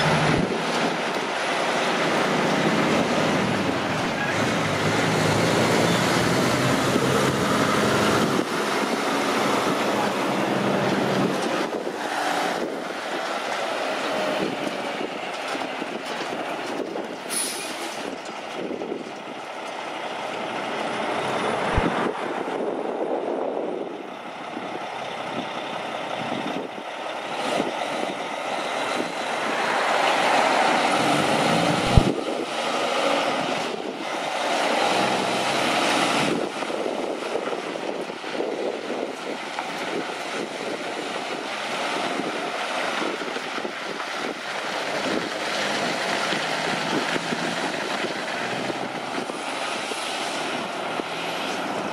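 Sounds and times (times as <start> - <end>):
diesel engine drone: 0.0 - 51.9
truck road noise: 0.0 - 51.9.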